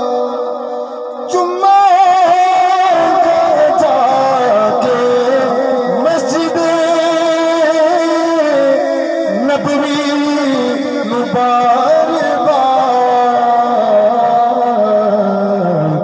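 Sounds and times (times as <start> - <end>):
man singing over loudspeakers: 0.0 - 16.0.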